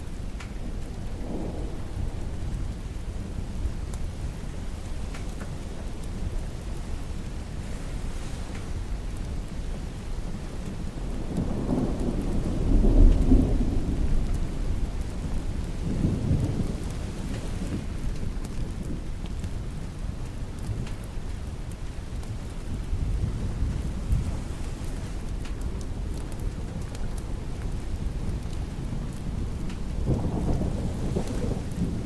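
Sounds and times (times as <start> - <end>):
thunder rumbling: 0.0 - 19.1, 21.4 - 32.0
steady rain: 0.0 - 32.0.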